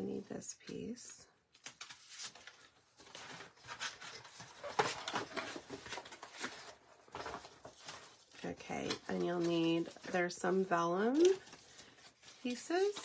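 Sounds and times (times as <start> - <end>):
paper rustling and sliding: 1.8 - 13.0.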